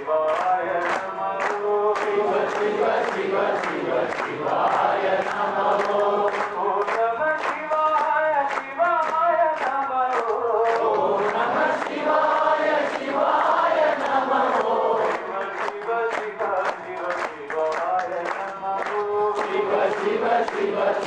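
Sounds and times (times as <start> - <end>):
group singing devotional song: 0.0 - 21.0.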